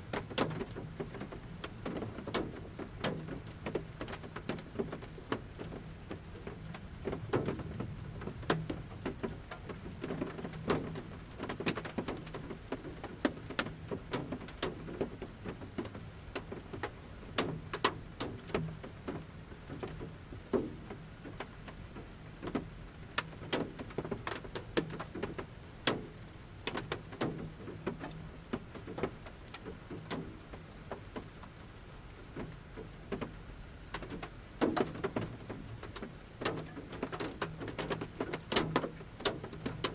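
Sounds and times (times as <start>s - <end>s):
raindrops tapping on metal roof: 0.0s - 39.9s
soft background hiss: 0.0s - 39.9s.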